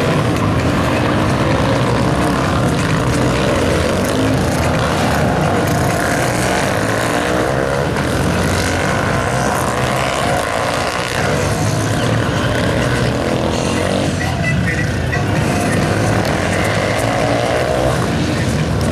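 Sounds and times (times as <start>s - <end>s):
motorcycle engines revving: 0.0s - 18.9s.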